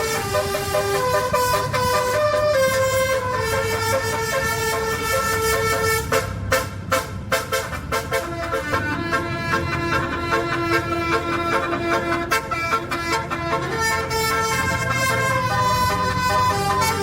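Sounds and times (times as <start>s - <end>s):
multi-tone horn melody: 0.0s - 17.0s.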